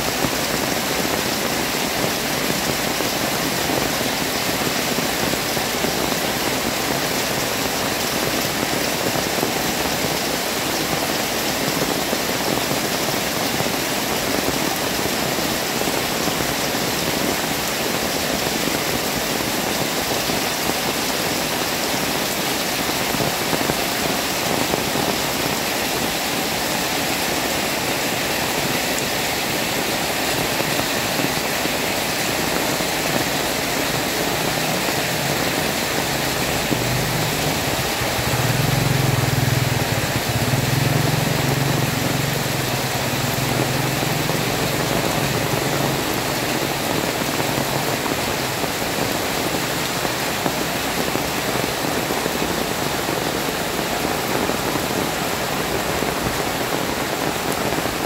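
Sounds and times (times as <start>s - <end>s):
heavy rain on street and awnings: 0.0s - 58.0s.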